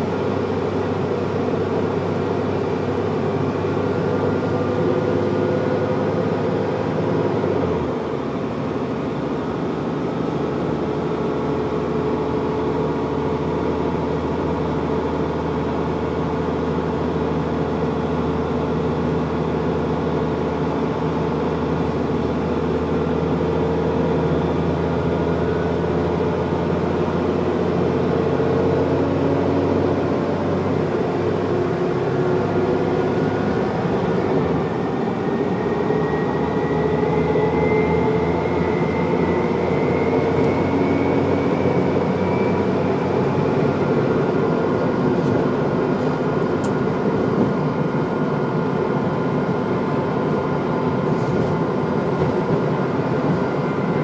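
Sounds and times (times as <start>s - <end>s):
bus engine droning with whine: 0.0s - 54.0s.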